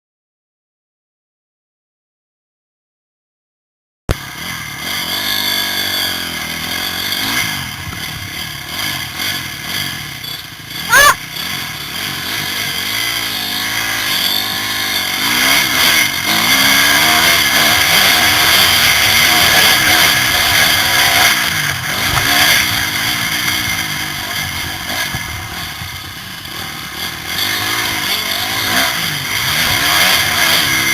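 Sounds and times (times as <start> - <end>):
motorcycle engines revving: 4.1 - 30.9.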